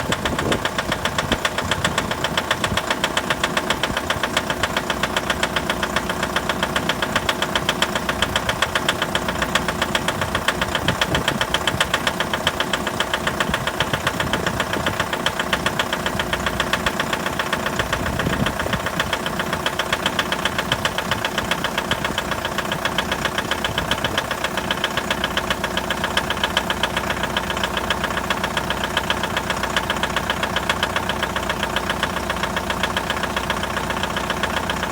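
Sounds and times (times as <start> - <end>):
diesel engine idling with knocking: 0.0 - 34.9.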